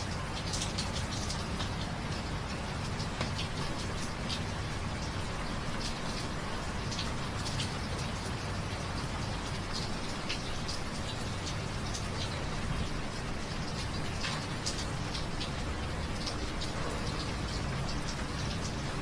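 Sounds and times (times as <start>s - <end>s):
steady rain hiss: 0.0s - 19.0s
drips pattering: 0.1s - 19.0s.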